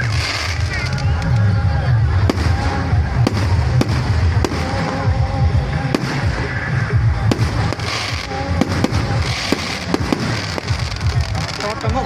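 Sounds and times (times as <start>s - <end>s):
fireworks bangs: 0.0s - 1.4s, 2.2s - 12.0s
low rumble of explosions: 0.0s - 12.0s.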